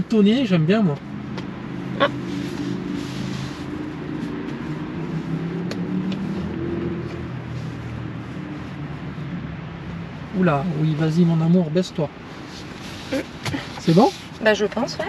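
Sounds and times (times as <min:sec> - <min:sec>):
vehicle humming: 0:00.0 - 0:15.0.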